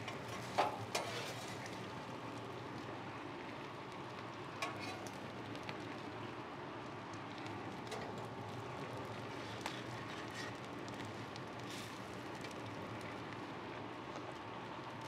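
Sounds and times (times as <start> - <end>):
fish skin sizzling on griddle: 0.0 - 15.0.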